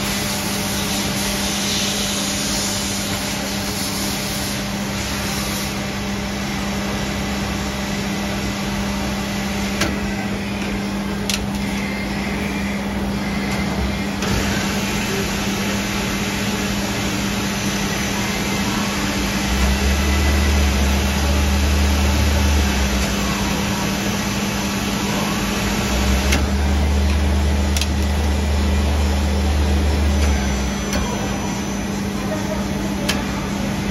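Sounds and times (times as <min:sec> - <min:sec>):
lathe machine hum: 0:00.0 - 0:33.9.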